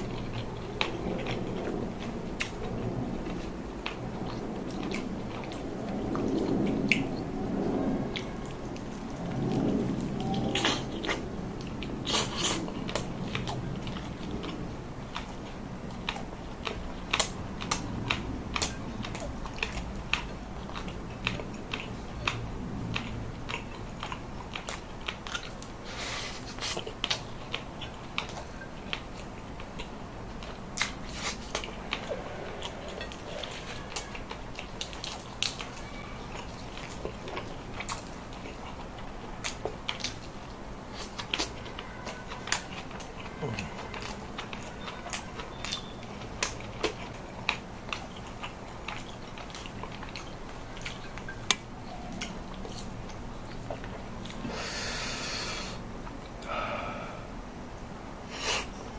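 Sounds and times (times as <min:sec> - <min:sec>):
person chewing crunchy food: 0:00.0 - 0:57.2.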